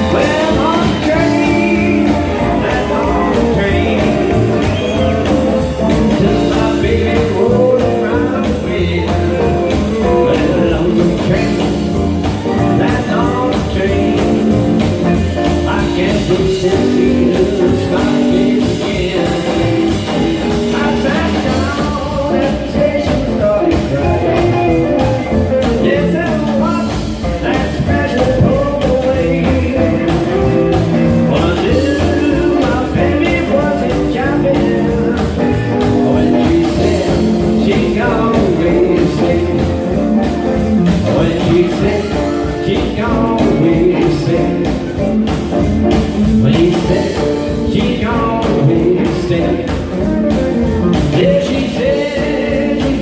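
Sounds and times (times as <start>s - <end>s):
blues band playing: 0.0s - 53.0s
electric lead guitar bends: 0.0s - 53.0s.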